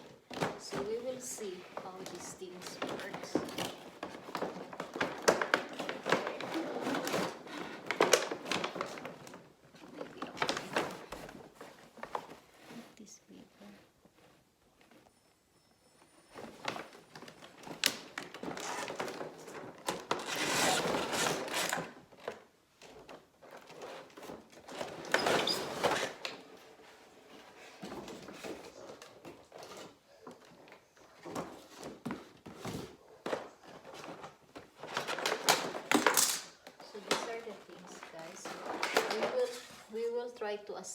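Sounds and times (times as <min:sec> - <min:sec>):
cardboard packaging rustling: 0:00.0 - 0:15.1, 0:16.2 - 0:40.2.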